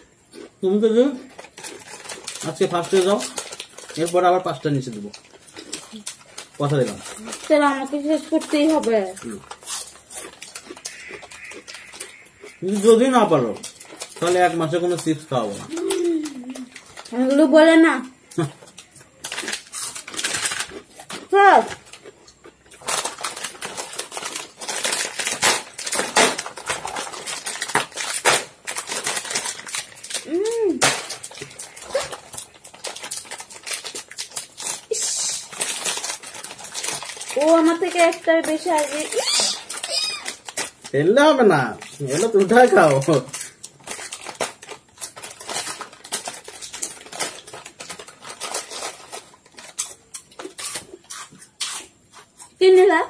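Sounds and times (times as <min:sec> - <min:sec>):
plastic packets crinkling: 0:00.0 - 0:52.6
potato chips crunching: 0:00.0 - 0:52.6.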